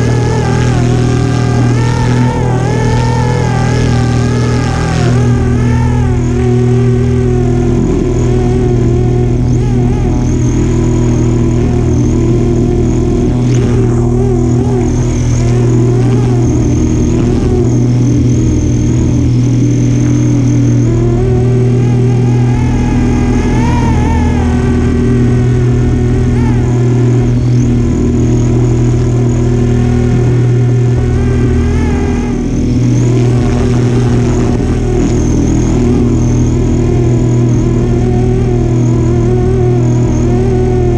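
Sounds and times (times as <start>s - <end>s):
rc helicopter motor and rotor whine: 0.0s - 40.9s.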